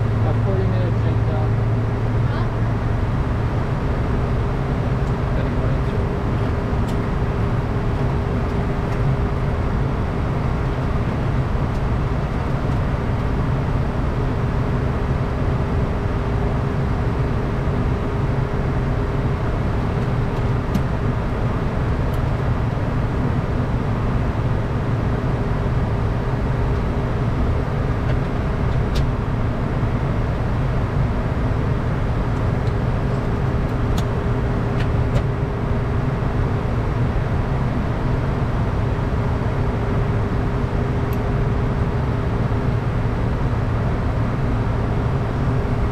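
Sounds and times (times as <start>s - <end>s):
constant hum: 0.0s - 45.9s
jet cockpit rumble: 0.0s - 45.9s.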